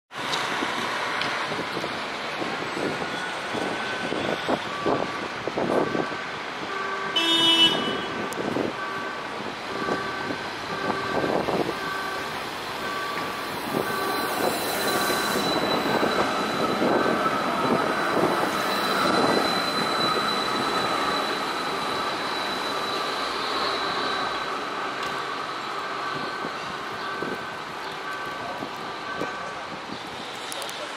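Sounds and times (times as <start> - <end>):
tram running on tracks: 0.1 - 30.9
tram horn toot: 3.6 - 29.8.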